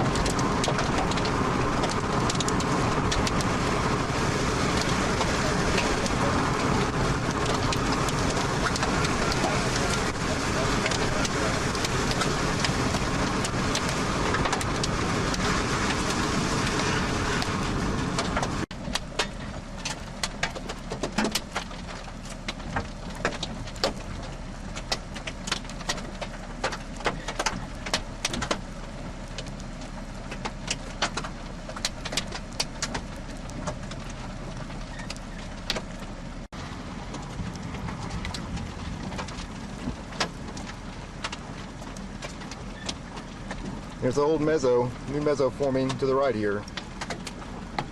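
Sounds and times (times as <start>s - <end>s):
car road and wind noise: 0.0s - 47.9s
raindrops tapping on car: 0.0s - 47.9s.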